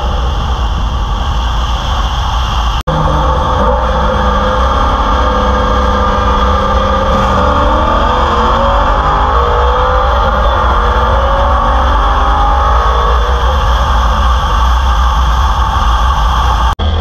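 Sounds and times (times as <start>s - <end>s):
loud car exhaust note: 2.5s - 17.0s.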